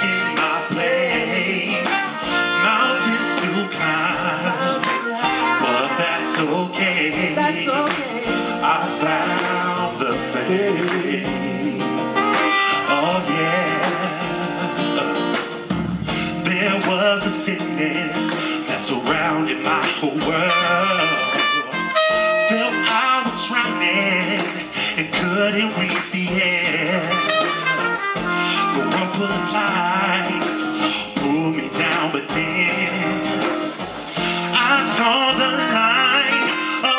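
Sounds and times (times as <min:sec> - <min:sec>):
drums: 0:00.0 - 0:36.9
guitar: 0:00.0 - 0:36.9
keyboard: 0:00.0 - 0:36.9
person singing: 0:00.0 - 0:36.9.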